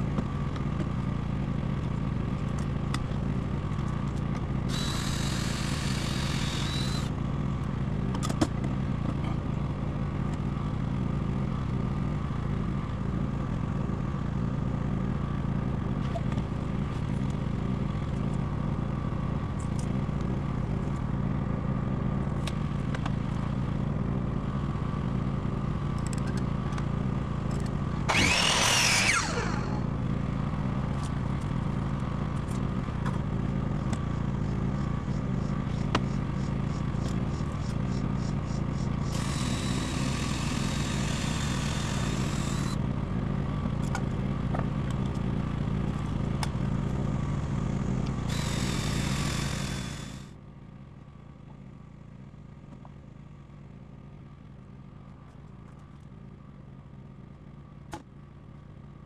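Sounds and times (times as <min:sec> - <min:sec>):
small engine humming: 0:00.0 - 0:56.4.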